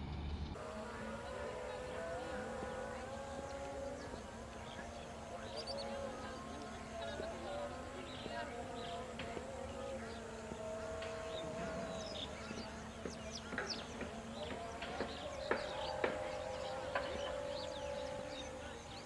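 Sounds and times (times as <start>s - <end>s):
drone of held tones: 0.6s - 19.0s.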